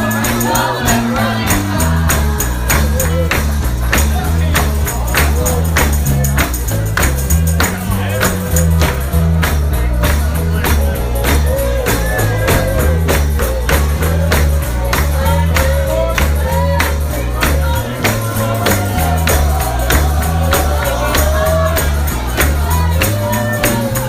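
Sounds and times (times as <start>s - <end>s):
stepping bass line: 0.0s - 24.0s
tambourine beat: 0.0s - 24.0s
voices singing: 0.0s - 24.0s.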